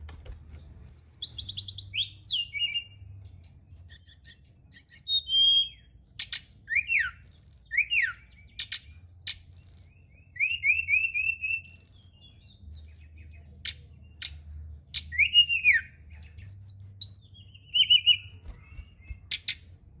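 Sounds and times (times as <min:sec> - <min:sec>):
faint low hum: 0:00.0 - 0:20.0
recorded bird song: 0:00.0 - 0:20.0.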